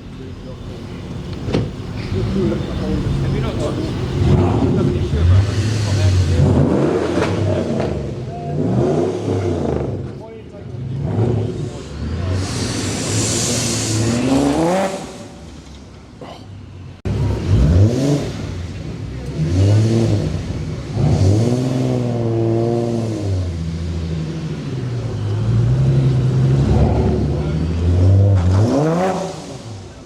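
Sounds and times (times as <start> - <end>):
engine revving with burbly exhaust: 0.0 - 16.4, 17.0 - 30.0.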